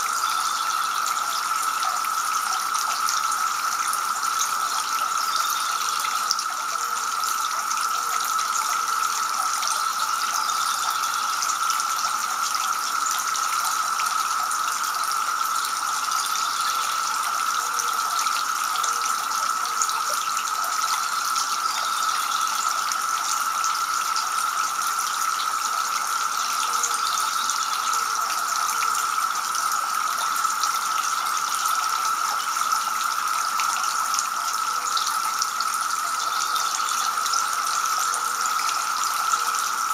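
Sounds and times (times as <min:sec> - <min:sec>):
fountain water trickling and splashing: 0:00.0 - 0:39.9.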